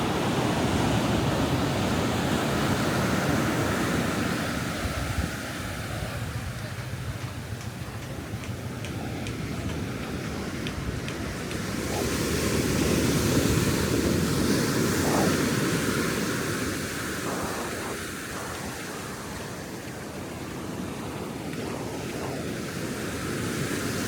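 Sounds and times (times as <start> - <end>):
ocean surf breaking: 0.0 - 24.0
wind rumble on microphone: 0.0 - 24.0.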